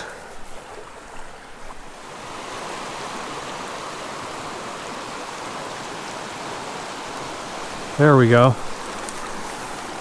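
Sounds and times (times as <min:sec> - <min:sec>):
creek gurgling over rocks: 0:00.0 - 0:10.0.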